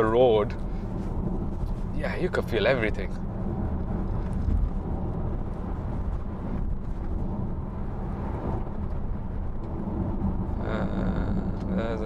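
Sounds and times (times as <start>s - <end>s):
road rumble inside car: 0.0s - 12.0s
wind noise: 0.0s - 12.0s.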